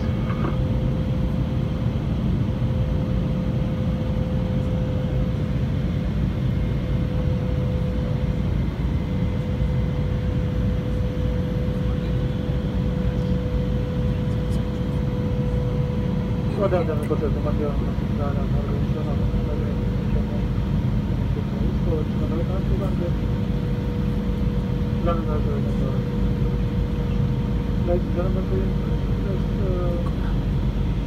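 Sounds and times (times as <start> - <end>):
jet engines and airflow rush: 0.0 - 31.0.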